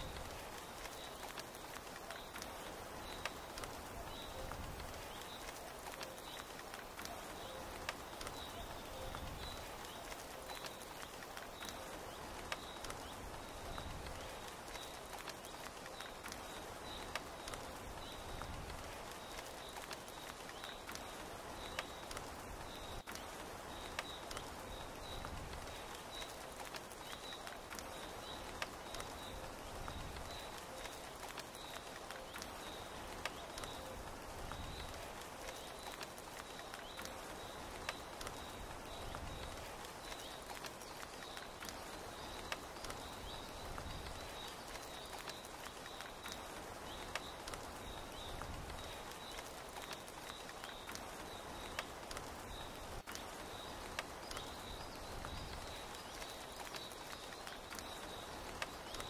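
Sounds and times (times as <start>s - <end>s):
rain pattering on tent canvas: 0.0s - 59.0s
raindrops ticking: 0.0s - 59.0s.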